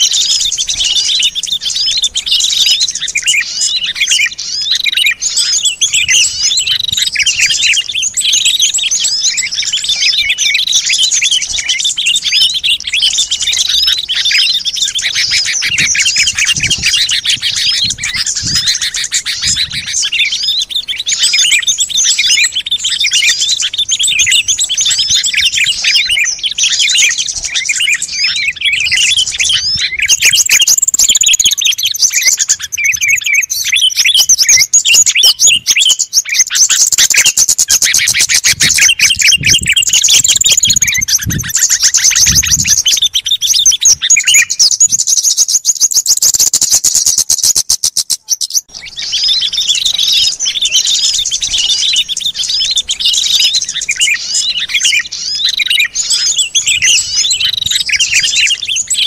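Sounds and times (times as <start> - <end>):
fast rattling bird trill: 0.0 - 59.0
songbirds chirping chorus: 0.0 - 59.0.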